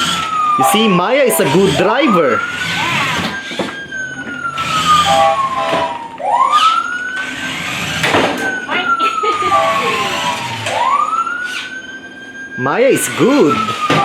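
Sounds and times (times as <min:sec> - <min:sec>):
toy fire truck siren wailing: 0:00.0 - 0:14.0.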